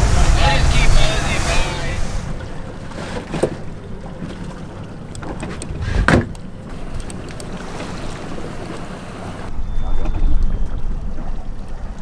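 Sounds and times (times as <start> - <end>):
outboard motors humming: 0.0 - 12.0.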